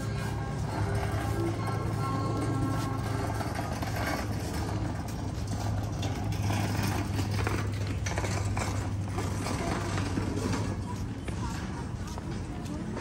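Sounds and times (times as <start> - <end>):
low hum: 0.0 - 13.0
stroller wheels rolling on paving: 0.0 - 13.0.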